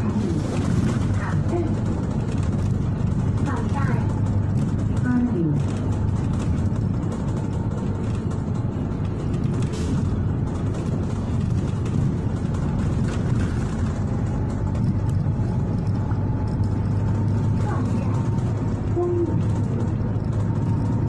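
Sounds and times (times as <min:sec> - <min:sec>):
bus engine rumble: 0:00.0 - 0:21.0
road noise: 0:00.0 - 0:21.0.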